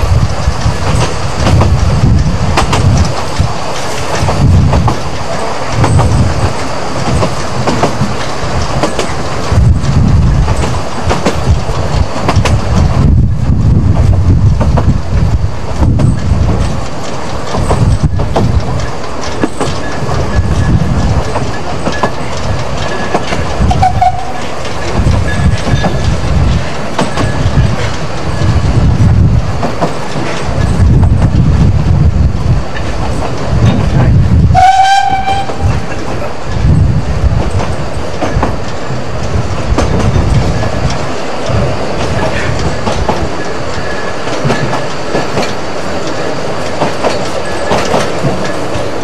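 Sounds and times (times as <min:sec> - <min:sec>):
train rolling rumble: 0:00.0 - 0:49.0
wheels clicking over rail joints: 0:00.0 - 0:49.0.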